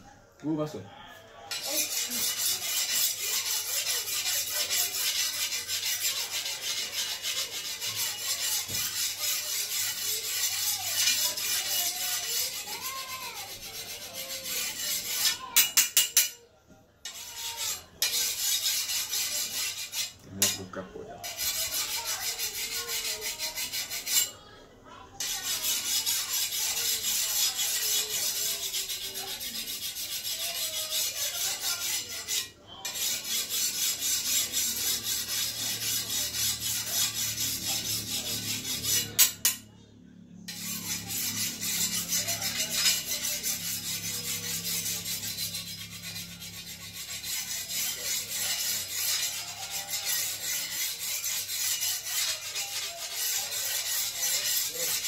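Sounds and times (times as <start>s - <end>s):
file rasping on steel blade: 1.5s - 16.4s, 17.0s - 24.5s, 25.2s - 39.7s, 40.5s - 55.0s.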